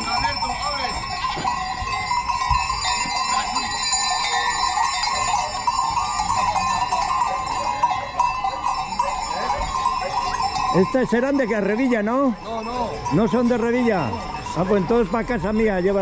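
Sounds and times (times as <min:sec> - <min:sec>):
goat neck bells clanking: 0:00.0 - 0:16.0.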